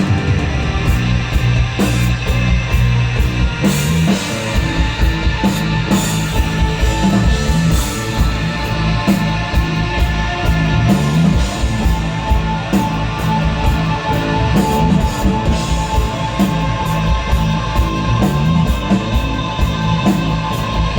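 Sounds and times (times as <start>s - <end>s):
long low bass notes: 0.0s - 20.9s
rock band playing: 0.0s - 20.9s.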